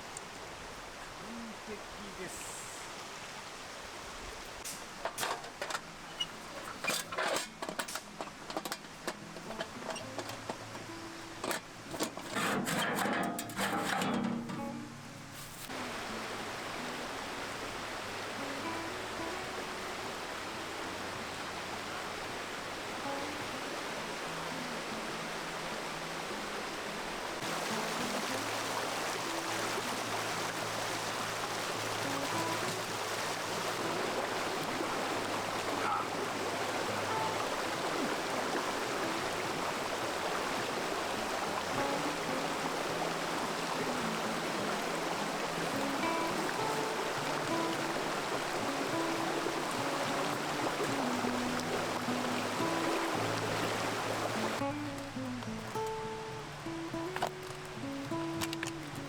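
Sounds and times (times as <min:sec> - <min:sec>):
running water: 0:00.0 - 0:59.0
soft background music: 0:08.4 - 0:12.5, 0:14.3 - 0:59.0.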